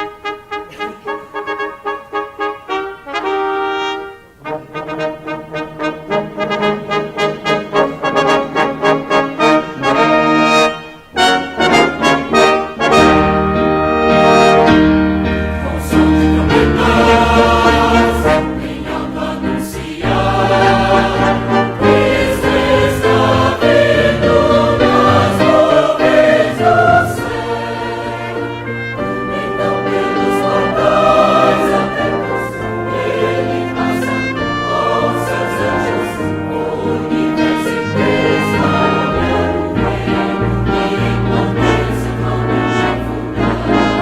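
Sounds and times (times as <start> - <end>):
brass ensemble playing: 0.0 - 44.0
choir singing a hymn: 0.0 - 44.0.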